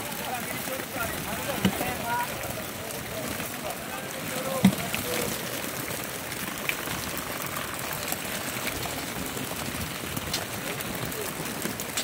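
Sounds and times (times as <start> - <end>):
water splashing and fish pattering: 0.0 - 12.0.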